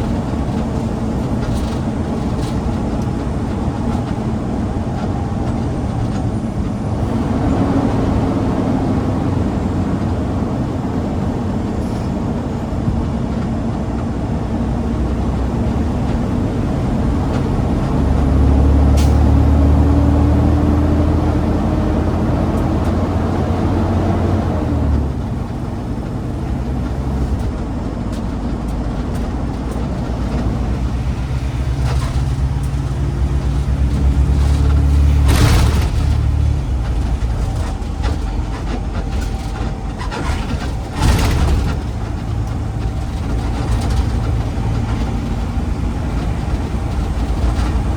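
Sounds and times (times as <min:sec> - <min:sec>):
garbage truck diesel engine: 0:00.0 - 0:47.9
road noise: 0:00.0 - 0:47.9.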